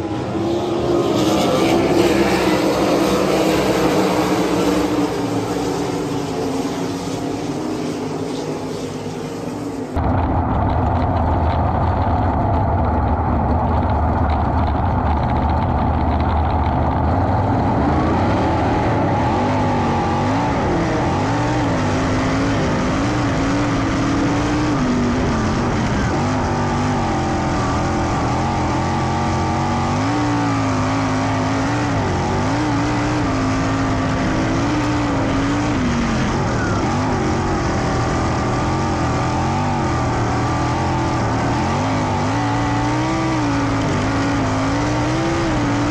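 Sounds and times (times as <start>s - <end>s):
racing car engine revving: 0.0s - 45.9s.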